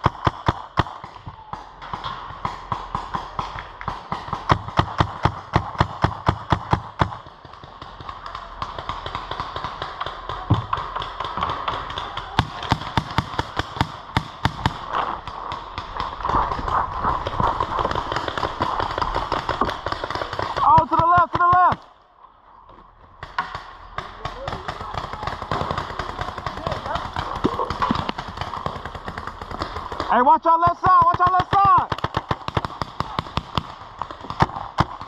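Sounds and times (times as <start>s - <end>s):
paintball markers firing: 0.0s - 21.9s, 23.2s - 35.0s.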